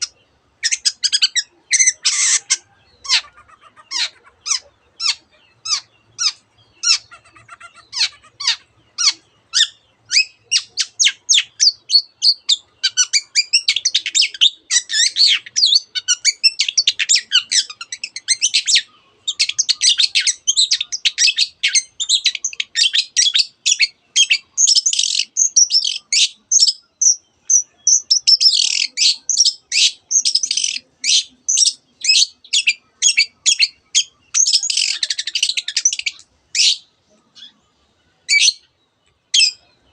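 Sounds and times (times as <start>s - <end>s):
shrike singing with mimicked calls: 0.0s - 39.9s.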